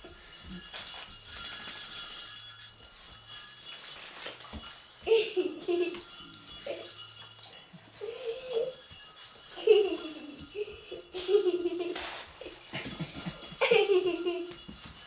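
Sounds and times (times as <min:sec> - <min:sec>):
small bell jingling: 0:00.0 - 0:15.0.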